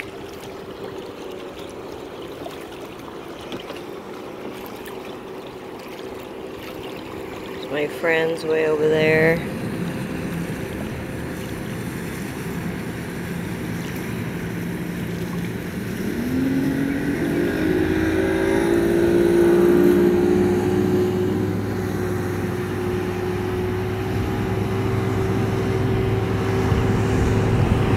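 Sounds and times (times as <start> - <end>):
motorboat engine at speed: 0.0 - 27.9.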